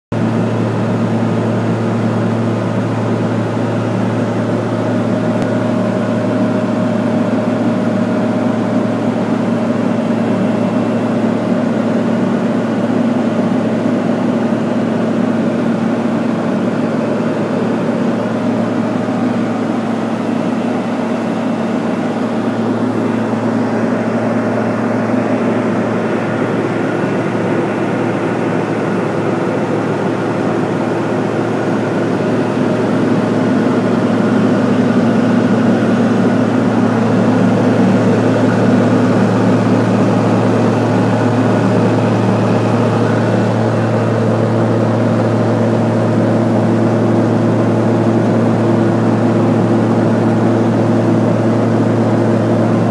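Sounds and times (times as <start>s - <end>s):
propeller and engine drone: 0.1s - 52.9s.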